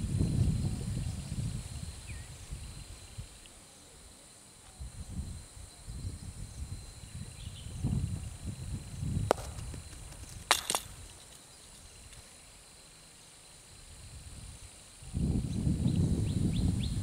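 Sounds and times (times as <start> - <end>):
high-pitched insect trilling: 0.0 - 17.0.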